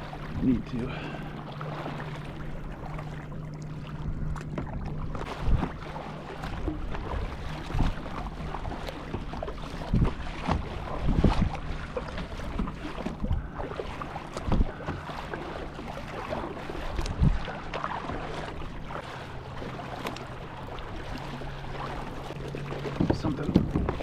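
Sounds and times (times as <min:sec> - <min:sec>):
steady low hum: 0:00.0 - 0:24.0
water splashing against hull: 0:00.0 - 0:24.0.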